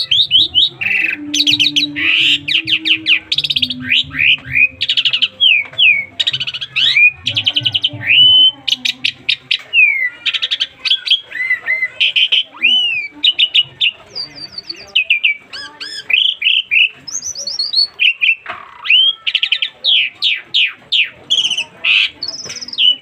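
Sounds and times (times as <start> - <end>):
starling singing varied song: 0.0 - 23.0.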